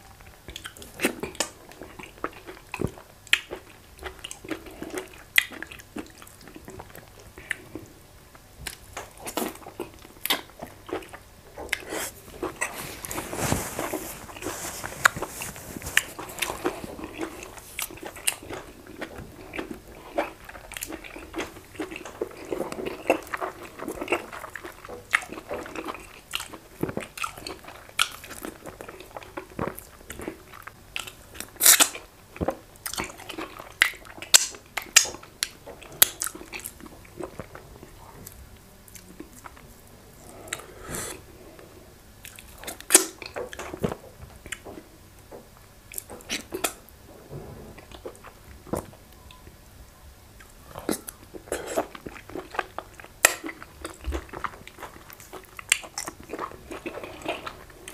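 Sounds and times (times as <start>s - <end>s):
chewing: 0.2s - 7.9s, 8.6s - 49.5s, 50.4s - 57.9s.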